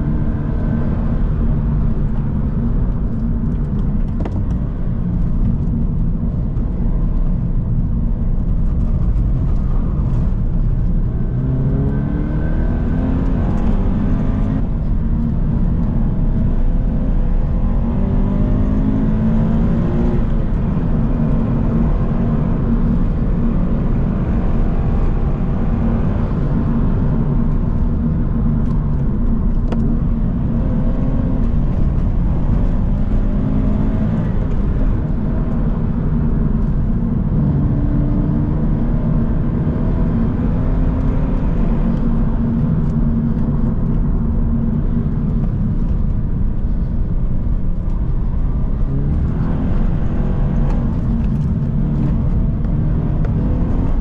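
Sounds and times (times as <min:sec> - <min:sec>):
car engine accelerating: 0:00.0 - 0:54.0
tyre and road noise: 0:00.0 - 0:54.0.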